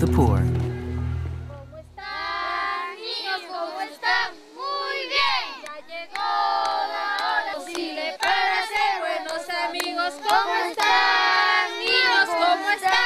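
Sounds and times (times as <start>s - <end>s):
high voices singing together: 0.0s - 13.0s.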